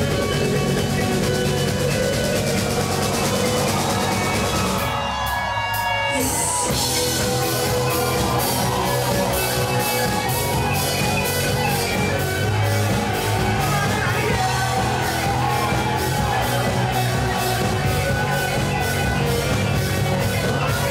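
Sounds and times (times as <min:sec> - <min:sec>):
drum beat: 0:00.0 - 0:05.6, 0:06.2 - 0:20.9
electric guitars: 0:00.0 - 0:20.9.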